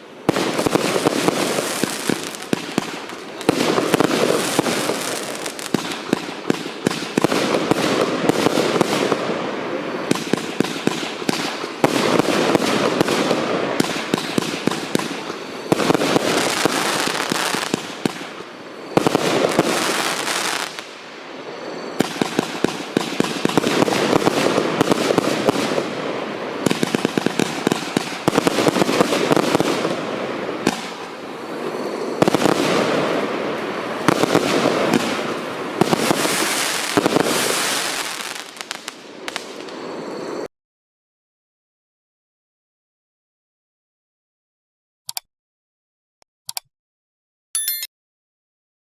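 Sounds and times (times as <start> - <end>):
fireworks launching and crackling: 0.0 - 40.5.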